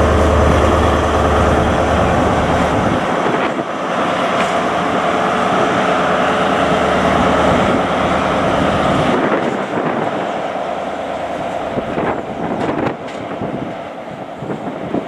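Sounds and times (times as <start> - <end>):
diesel train engine drone: 0.0 - 15.0
train rumbling on rails: 0.0 - 15.0.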